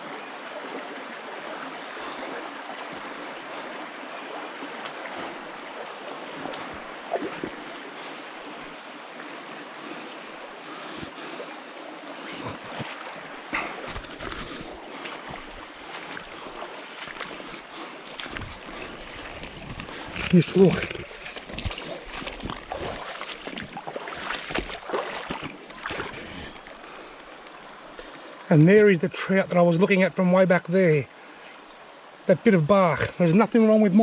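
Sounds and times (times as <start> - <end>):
creek water rushing over stones: 0.0 - 34.0.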